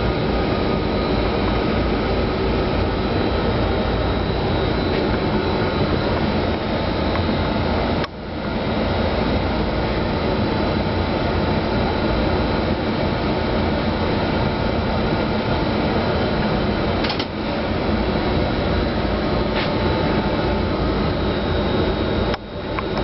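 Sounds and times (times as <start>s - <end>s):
locomotive equipment humming: 0.0s - 23.0s
thin high whine: 0.0s - 23.0s.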